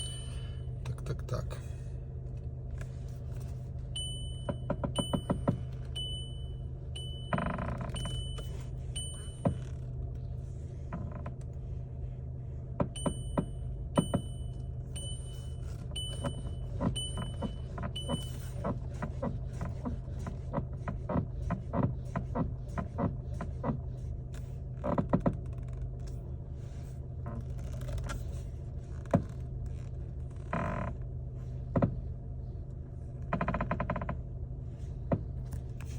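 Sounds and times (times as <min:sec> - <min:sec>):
steady low hum: 0:00.0 - 0:35.9
steering rack creaking and clicking: 0:02.2 - 0:11.7, 0:12.7 - 0:35.9.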